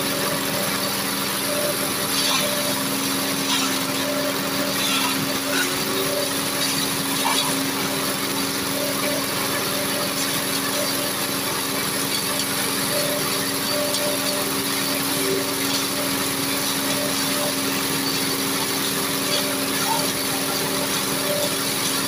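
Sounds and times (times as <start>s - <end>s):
diesel engine running: 0.0s - 22.0s
forage chopper chopping stalks: 0.1s - 22.0s.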